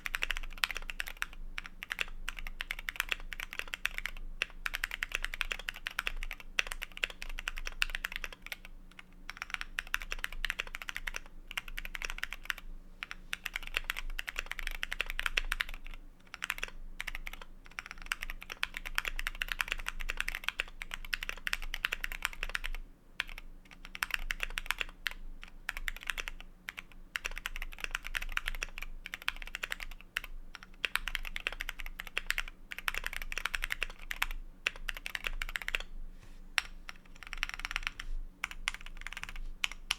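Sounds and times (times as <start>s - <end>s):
mechanical keyboard typing: 0.0s - 35.9s, 36.6s - 39.9s.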